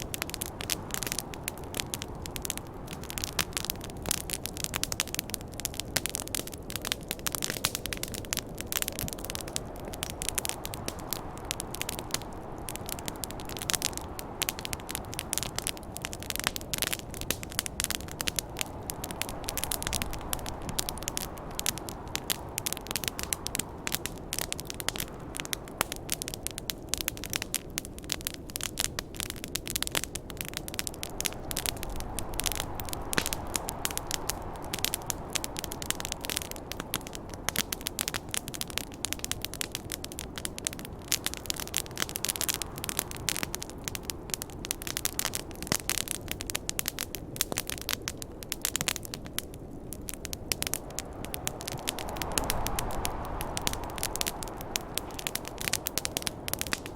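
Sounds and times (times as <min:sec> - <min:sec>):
snowstorm wind rushing: 0:00.0 - 0:45.4, 0:49.8 - 0:56.9
wood fire crackling: 0:00.0 - 0:56.9.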